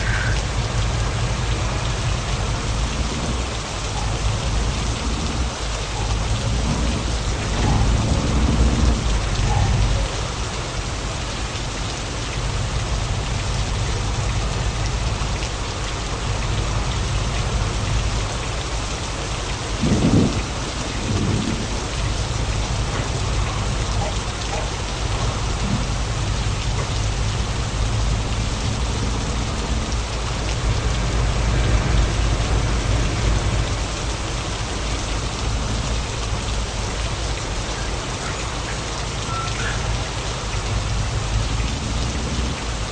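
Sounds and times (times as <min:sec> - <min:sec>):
truck engine drone: 0:00.0 - 0:11.4, 0:12.4 - 0:42.9
road and tyre noise: 0:00.0 - 0:42.9.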